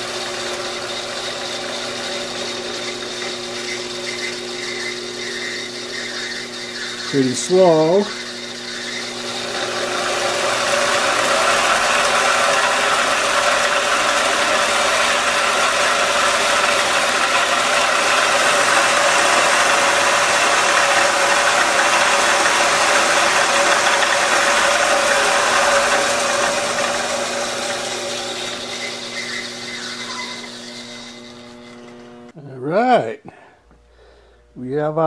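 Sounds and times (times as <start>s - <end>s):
band saw rasping through metal: 0.0s - 32.3s
motor hum: 0.0s - 35.0s.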